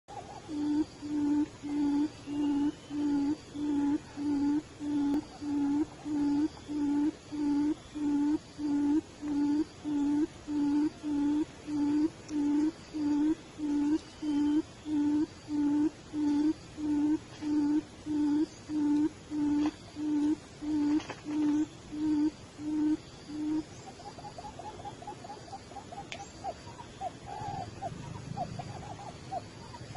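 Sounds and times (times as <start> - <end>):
bird hooting: 0.1 - 29.9.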